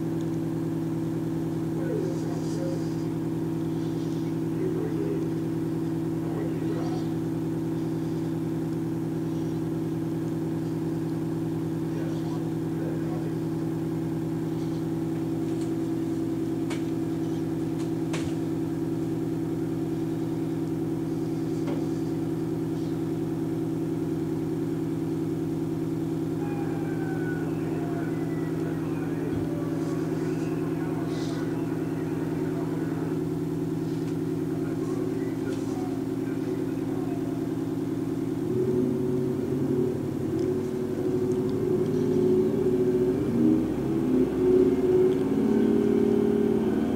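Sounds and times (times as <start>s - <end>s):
diesel engine running: 0.0s - 46.9s
distant voices: 0.3s - 46.9s.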